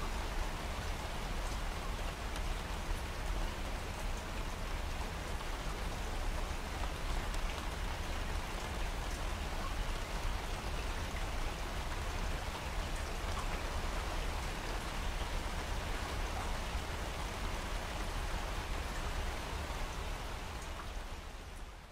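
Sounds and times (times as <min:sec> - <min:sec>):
rain falling on water: 0:00.0 - 0:21.9.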